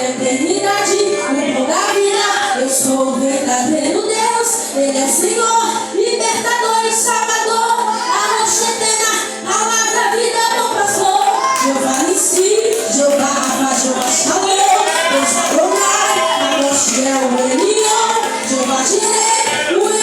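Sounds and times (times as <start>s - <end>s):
women singing worship song: 0.0s - 20.0s.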